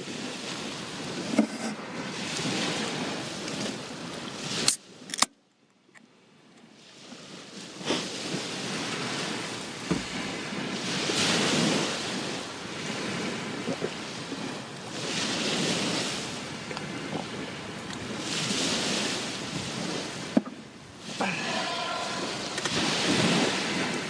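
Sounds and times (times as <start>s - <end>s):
sea waves washing ashore: 0.0s - 5.3s, 6.0s - 24.0s
wind on microphone: 0.0s - 5.3s, 6.7s - 24.0s.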